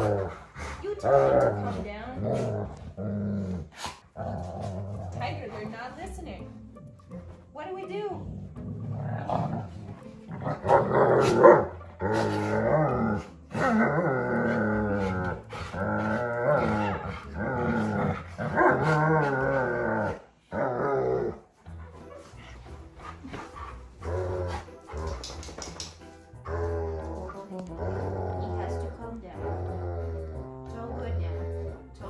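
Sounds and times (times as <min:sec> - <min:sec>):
dogs growling: 0:00.0 - 0:07.5, 0:08.1 - 0:32.0.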